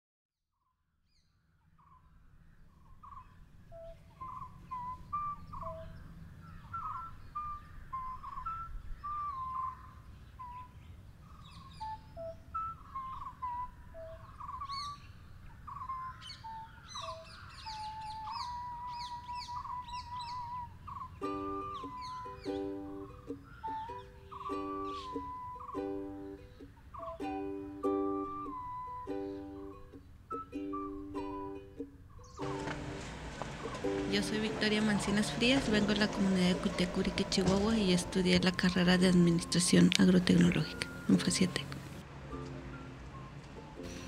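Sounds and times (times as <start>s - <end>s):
birds singing and chirping: 1.1s - 31.0s, 32.1s - 42.0s.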